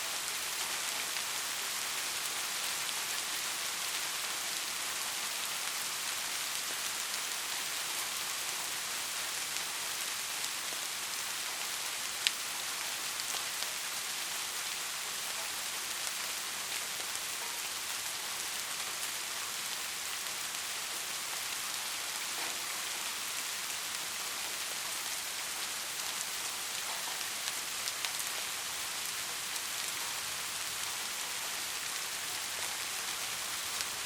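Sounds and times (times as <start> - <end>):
heavy rain hiss: 0.0 - 34.0.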